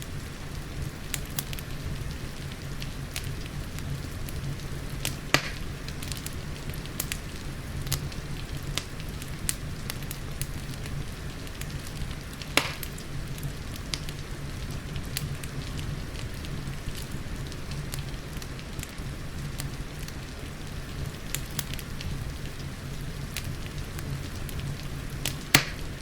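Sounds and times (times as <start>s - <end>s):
rain hissing: 0.0s - 26.0s
sharp pops of fire: 0.0s - 26.0s
wood fire crackling: 0.0s - 26.0s.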